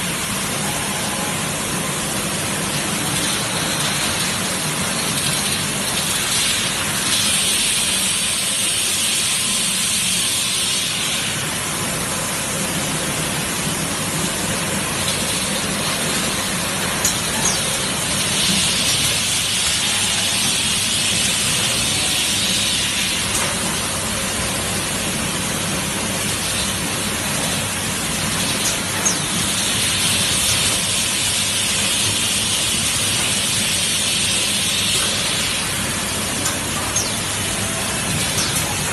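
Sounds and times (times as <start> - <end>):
louder high hiss: 0.0 - 38.9
packing machinery hissing: 0.0 - 38.9.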